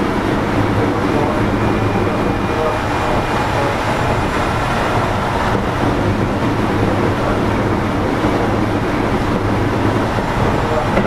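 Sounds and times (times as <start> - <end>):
low hum: 0.0 - 11.0
train wheels rumbling on rail: 0.0 - 11.0.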